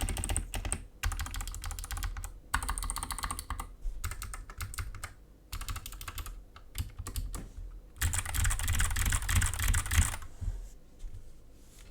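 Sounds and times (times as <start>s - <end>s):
clicky keyboard typing: 0.0s - 10.2s.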